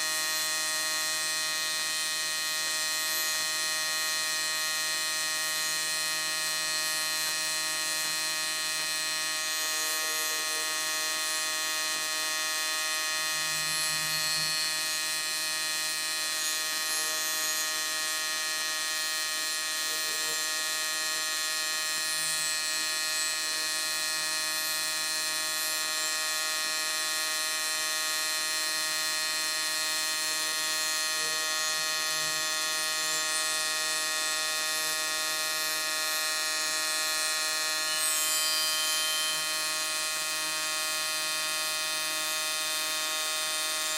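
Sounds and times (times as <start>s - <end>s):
welding arc buzzing: 0.0s - 43.9s.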